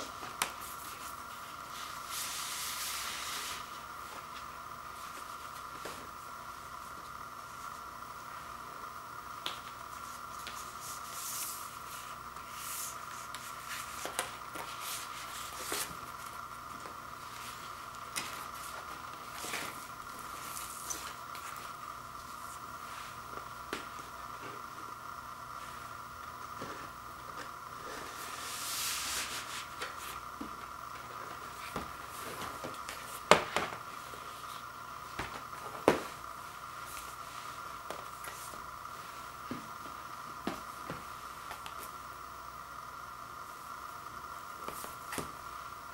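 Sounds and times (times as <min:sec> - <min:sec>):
faint high hum: 0:00.0 - 0:45.9.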